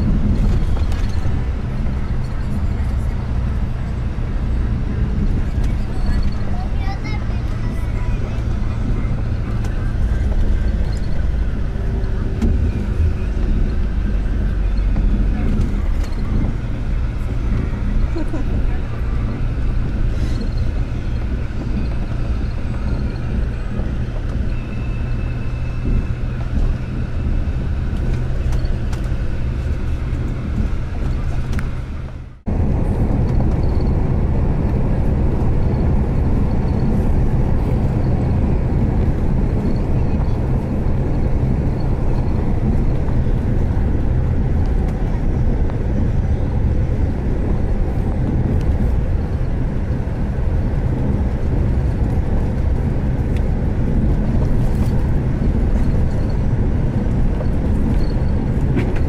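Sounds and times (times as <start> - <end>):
vehicle driving on road: 0.0 - 59.0.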